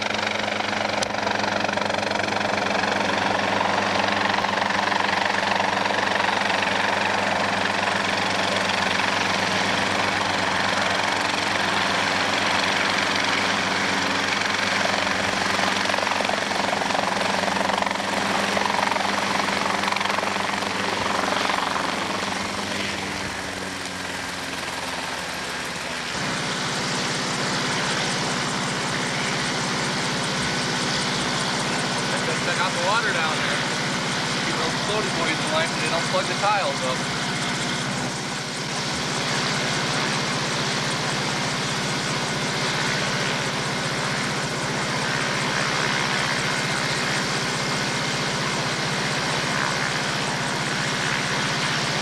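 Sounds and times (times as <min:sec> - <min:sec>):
helicopter engine and rotor: 0:00.0 - 0:52.0.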